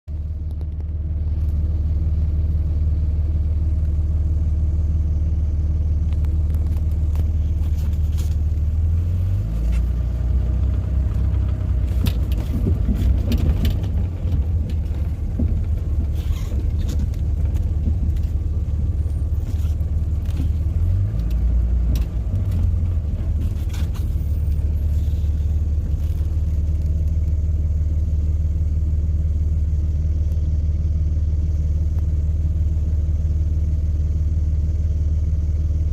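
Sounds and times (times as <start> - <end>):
vehicle engine running: 0.1 - 35.9.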